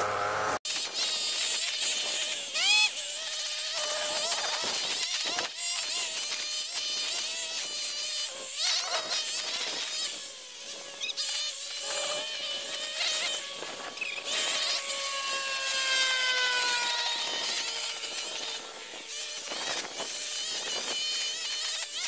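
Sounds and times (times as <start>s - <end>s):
string trimmer engine whine: 0.0s - 22.0s
trimmer blades whipping weeds: 0.0s - 22.0s.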